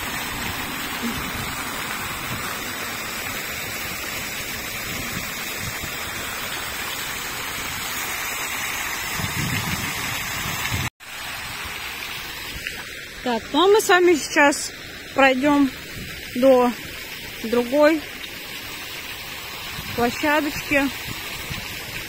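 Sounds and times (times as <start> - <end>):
falling water splashing: 0.0 - 22.0.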